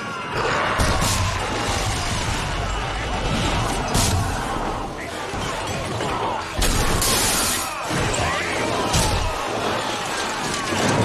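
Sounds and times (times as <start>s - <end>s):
soldiers shouting: 0.0s - 11.0s
crashes and clashing: 0.2s - 11.0s.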